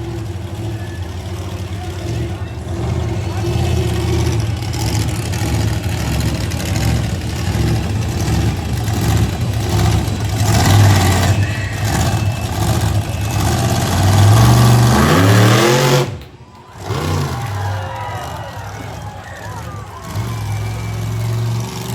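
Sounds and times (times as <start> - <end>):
monster truck engine revving: 0.0 - 21.9.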